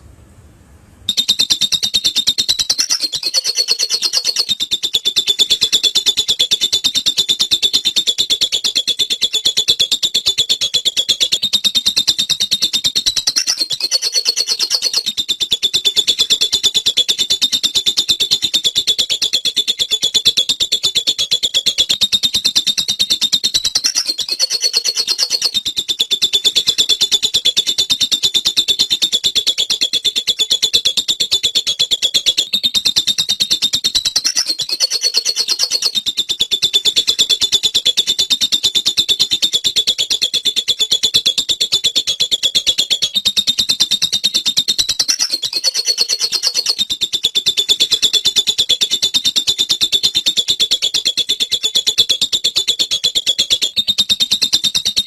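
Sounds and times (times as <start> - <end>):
lovebird chattering trill: 1.1 - 55.0.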